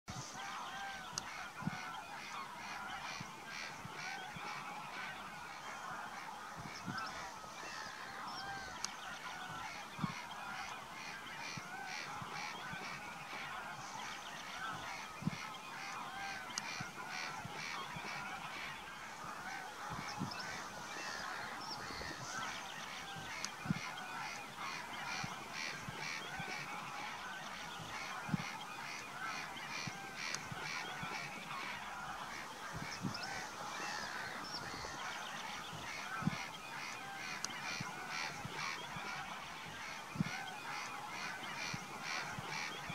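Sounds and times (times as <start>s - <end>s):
geese honking: 0.2s - 42.9s.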